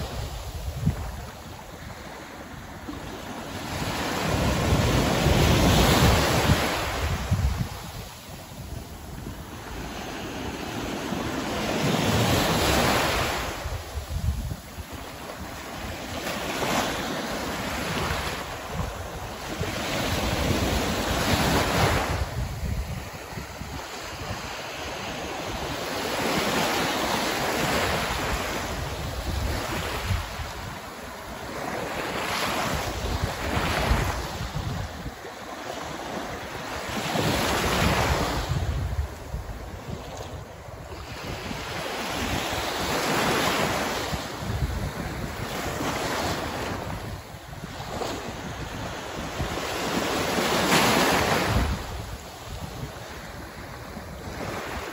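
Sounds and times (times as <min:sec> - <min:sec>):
small waves breaking on sand: 0:00.0 - 0:54.9
wind buffeting microphone: 0:00.0 - 0:54.9.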